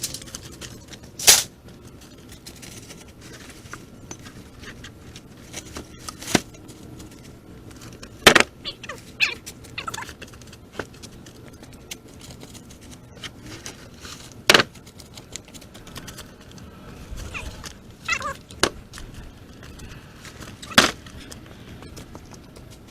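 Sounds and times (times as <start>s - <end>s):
wood pieces knocking and clattering: 0.0s - 16.2s, 17.6s - 22.9s.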